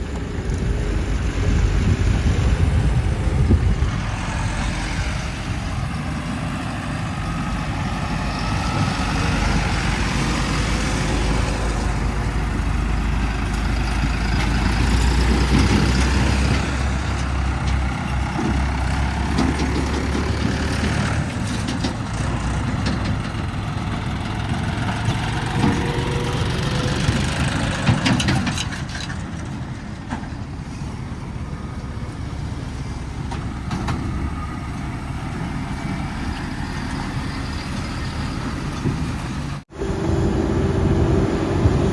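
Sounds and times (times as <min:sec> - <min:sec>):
diesel machinery engines rumbling: 0:00.0 - 0:41.9.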